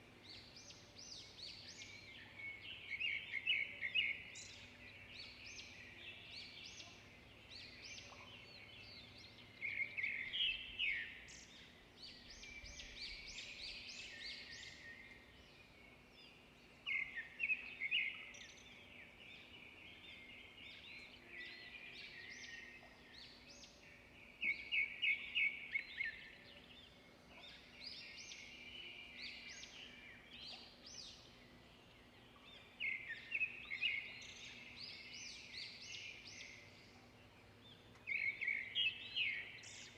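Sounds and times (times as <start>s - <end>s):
birds chirping and singing: 0.2s - 39.9s.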